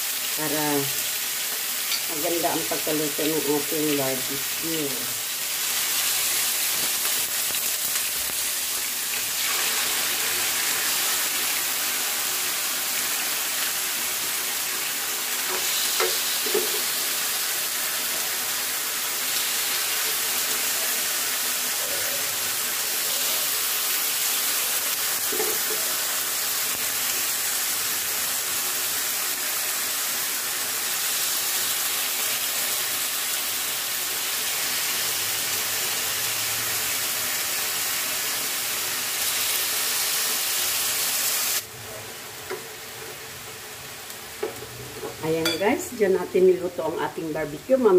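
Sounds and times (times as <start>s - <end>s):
chicken sizzling in grill pan: 0.0s - 47.9s.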